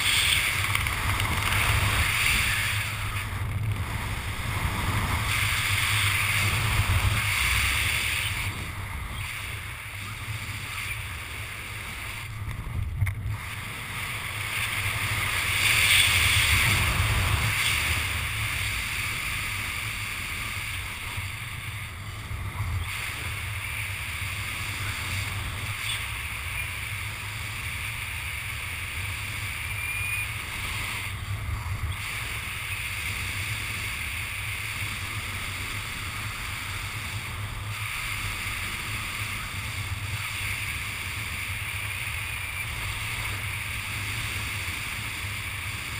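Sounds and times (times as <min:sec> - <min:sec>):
wind rush with low rumble: 0:00.0 - 0:45.9.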